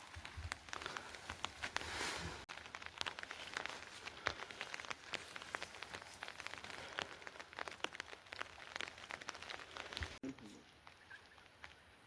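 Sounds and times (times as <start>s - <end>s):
raindrops striking a surface: 0.0s - 12.0s
steady rain: 0.0s - 12.0s.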